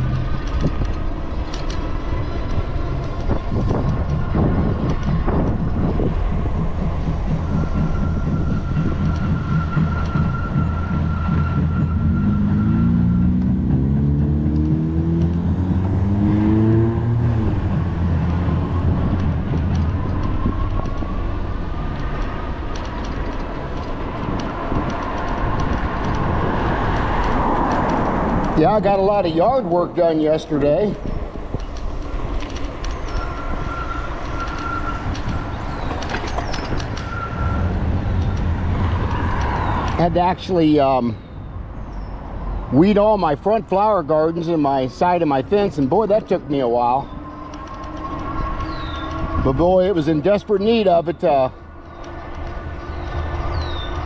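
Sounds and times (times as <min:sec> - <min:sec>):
traffic: 0:00.0 - 0:54.0
vehicle engine rising in pitch: 0:00.0 - 0:54.0
wind and road noise: 0:00.0 - 0:54.0.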